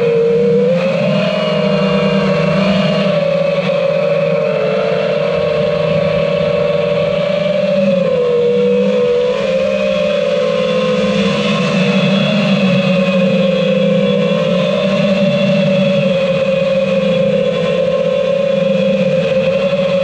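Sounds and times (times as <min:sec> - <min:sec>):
quadcopter motors buzzing whine: 0:00.0 - 0:20.0.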